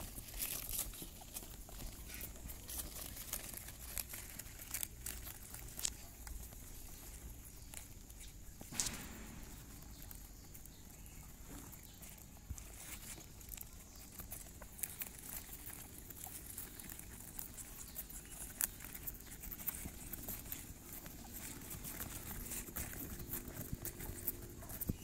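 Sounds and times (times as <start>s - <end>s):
rabbits clicking and rustling: 0.0s - 25.0s.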